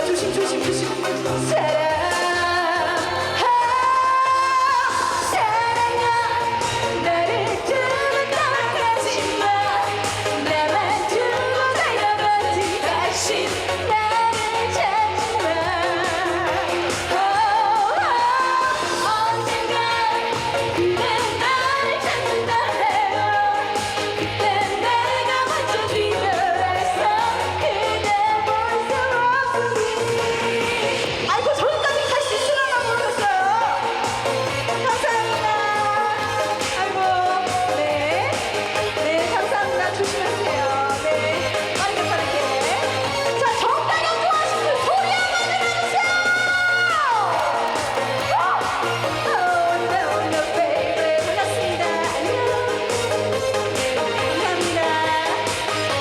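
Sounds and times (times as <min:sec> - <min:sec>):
backing track music: 0:00.0 - 0:56.0
woman singing: 0:00.0 - 0:56.0.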